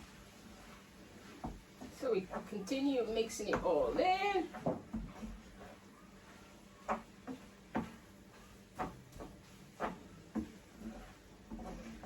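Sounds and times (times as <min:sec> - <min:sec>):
utensil knocking and scraping pan: 0:00.0 - 0:05.9, 0:06.8 - 0:12.0.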